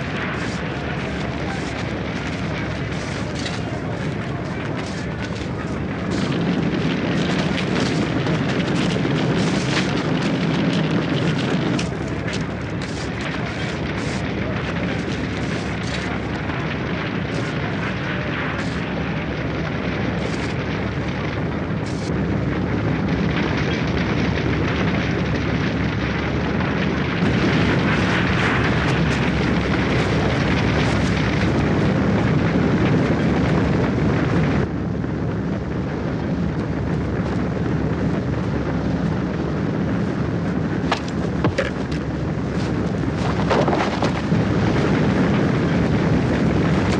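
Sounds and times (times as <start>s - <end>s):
fire crackling: 0.0s - 46.9s
fire roaring rush: 0.0s - 46.9s.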